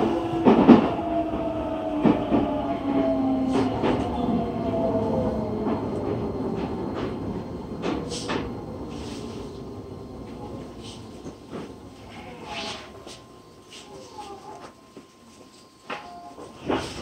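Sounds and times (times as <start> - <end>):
train motor whine: 0.0 - 17.0.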